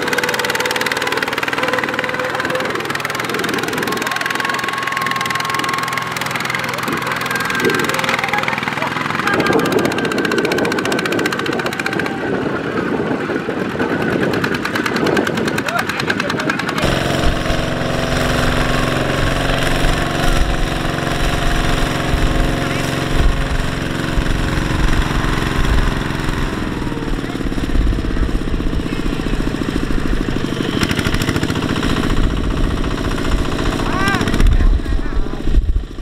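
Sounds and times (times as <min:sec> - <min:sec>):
diesel engine running hard: 0:00.0 - 0:36.0.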